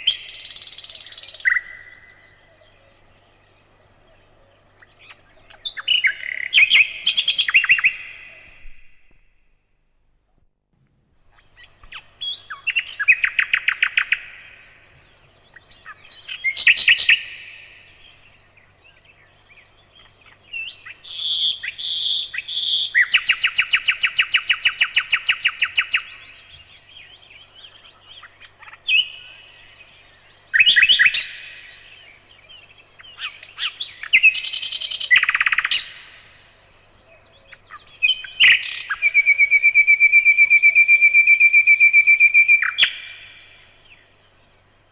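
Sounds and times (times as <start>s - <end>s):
nightingale singing: 0.0s - 9.5s, 11.1s - 44.9s.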